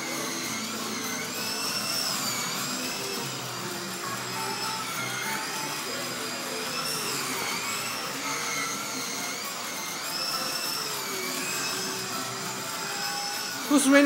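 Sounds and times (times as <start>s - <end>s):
slot car motors whining: 0.0s - 14.0s.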